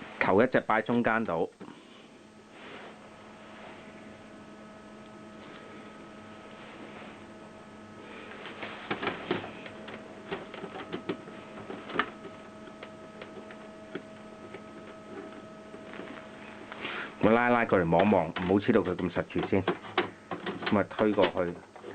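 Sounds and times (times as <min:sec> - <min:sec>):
electrical hum: 0:00.0 - 0:21.9.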